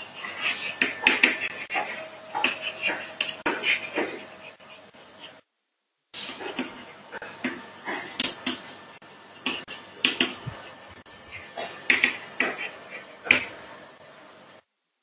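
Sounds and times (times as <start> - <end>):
chalk writing on blackboard: 0.0 - 5.4, 6.2 - 13.7.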